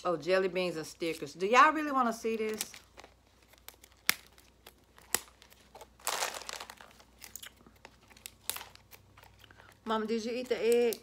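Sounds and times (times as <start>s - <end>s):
candy packaging crinkling: 0.8s - 11.0s.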